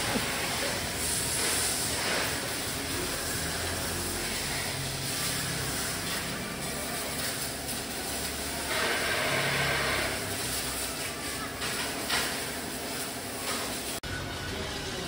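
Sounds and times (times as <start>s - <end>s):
pressure washer spraying: 0.0s - 14.0s.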